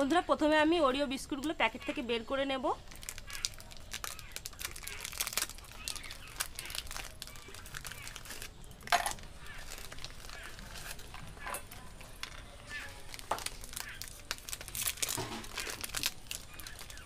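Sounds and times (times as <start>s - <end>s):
plastic wrappers crinkling and tearing: 2.8s - 17.0s.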